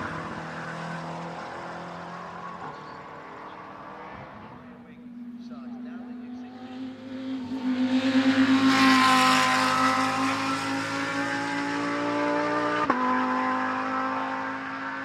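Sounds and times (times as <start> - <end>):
race car accelerating past: 0.0 - 15.0.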